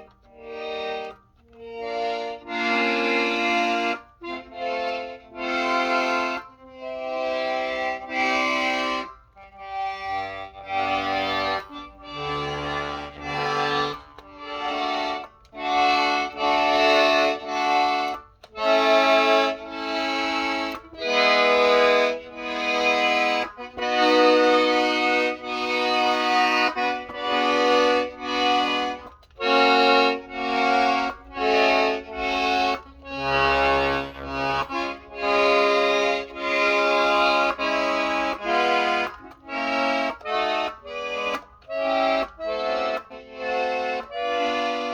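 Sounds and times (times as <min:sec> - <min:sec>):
accordion bass chords: 0:00.0 - 0:44.9.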